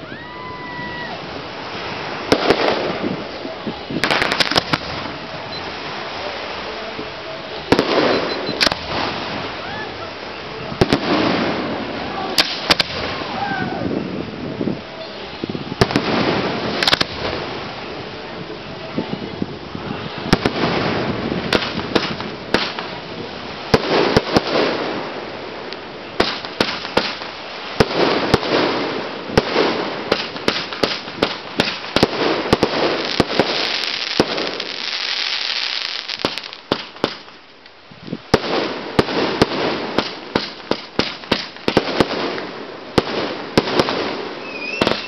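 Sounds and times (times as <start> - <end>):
firework hiss and crackle: 0.0 - 45.0
firework bangs: 0.5 - 10.0, 10.6 - 13.6, 15.4 - 19.1, 19.7 - 37.4, 38.3 - 45.0.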